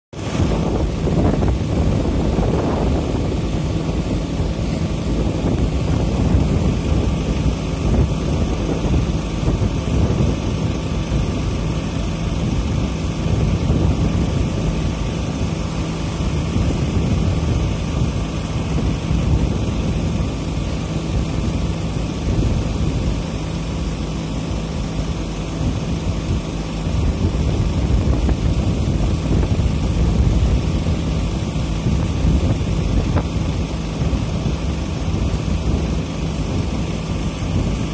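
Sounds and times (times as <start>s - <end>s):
low engine hum: 0.1s - 37.9s.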